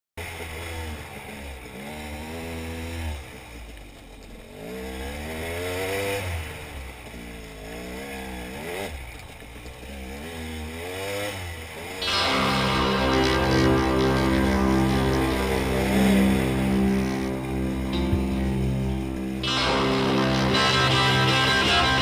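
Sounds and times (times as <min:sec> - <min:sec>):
dirt bike engine revving: 0:00.2 - 0:22.0.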